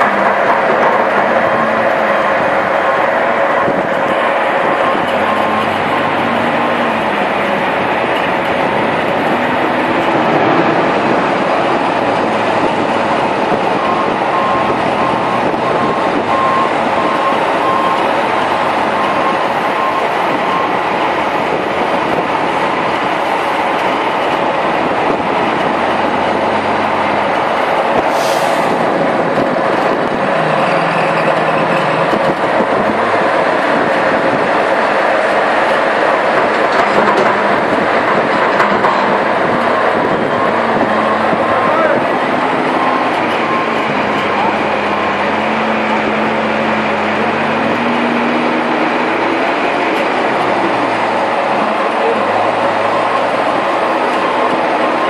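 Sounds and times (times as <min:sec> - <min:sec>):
diesel engine running under load: 0:00.0 - 0:55.0
loud rushing noise: 0:00.0 - 0:55.0.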